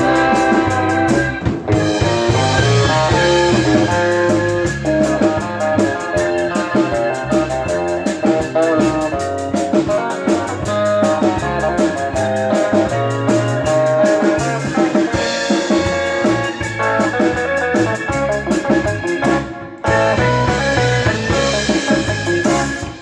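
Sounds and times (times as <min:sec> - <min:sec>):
band playing: 0:00.0 - 0:23.0
guitar: 0:00.0 - 0:23.0.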